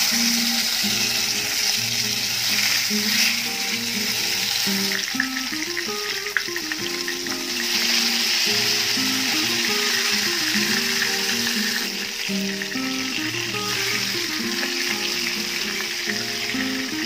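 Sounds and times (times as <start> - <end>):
background music: 0.0 - 17.0
food sizzling in hot oil: 0.0 - 17.0.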